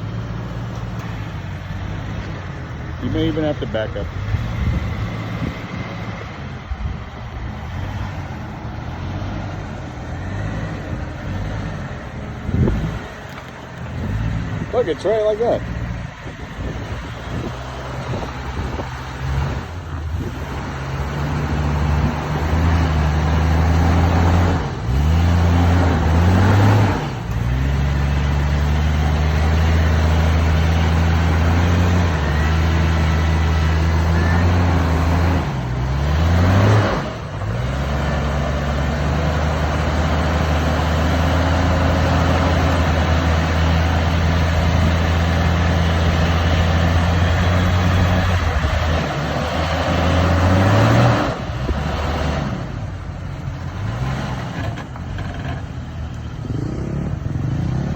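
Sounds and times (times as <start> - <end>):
engine revving under load: 0.0 - 57.9.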